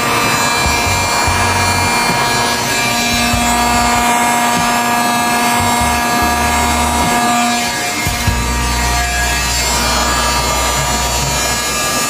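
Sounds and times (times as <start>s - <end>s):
heat gun air rushing: 0.0s - 12.0s
motor whine: 0.0s - 12.0s.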